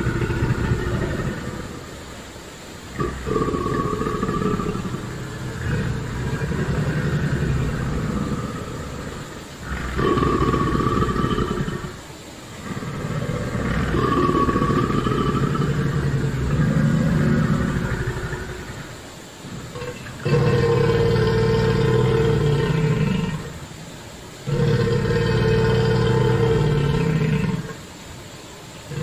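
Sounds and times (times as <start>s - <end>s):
deep animal growling: 0.0s - 2.0s, 2.9s - 23.6s, 24.4s - 27.8s.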